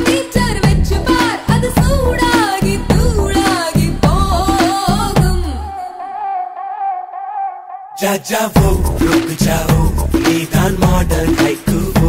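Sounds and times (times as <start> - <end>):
upbeat dance song: 0.0 - 12.0.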